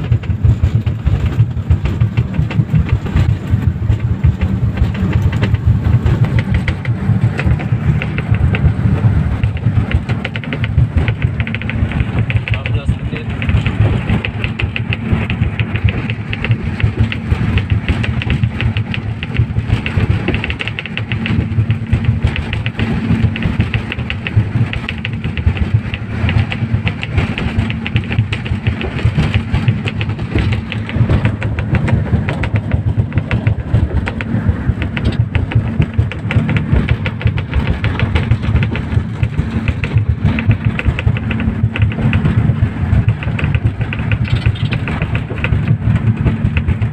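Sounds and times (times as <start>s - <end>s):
outboard engines running: 0.0s - 46.9s.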